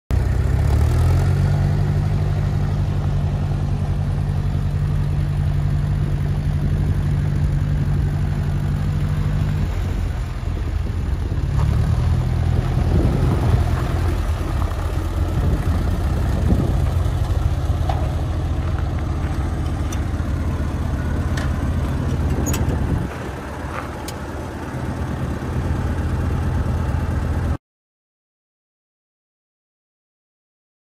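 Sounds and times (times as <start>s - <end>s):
tractor engine running: 0.1s - 27.6s.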